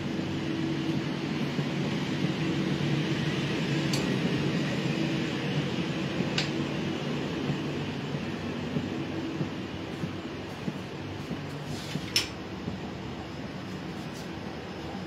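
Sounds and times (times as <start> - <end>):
train coach hum and hiss: 0.0 - 15.0.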